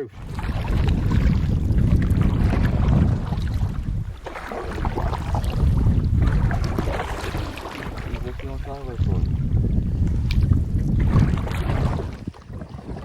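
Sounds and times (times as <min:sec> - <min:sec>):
canoe paddle in water: 0:00.0 - 0:13.0
wind buffeting microphone: 0:00.0 - 0:13.0.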